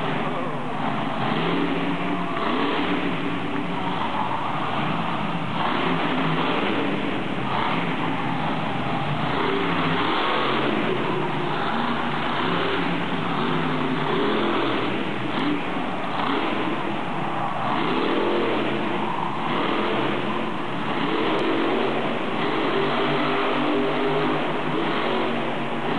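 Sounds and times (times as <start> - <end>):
monster truck engines revving: 0.0 - 25.9.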